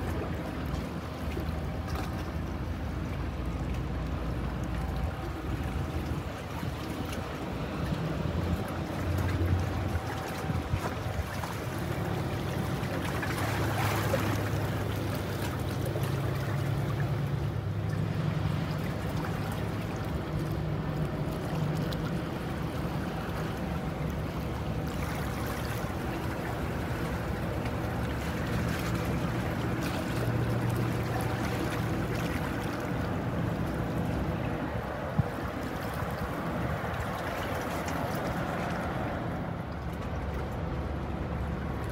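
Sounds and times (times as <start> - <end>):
ship engine hum: 0.0 - 41.9
water: 0.0 - 41.9.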